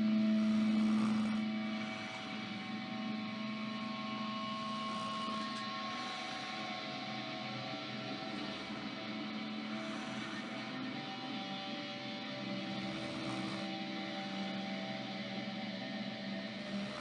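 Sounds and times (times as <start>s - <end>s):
electric guitar sustained notes: 0.0s - 17.0s.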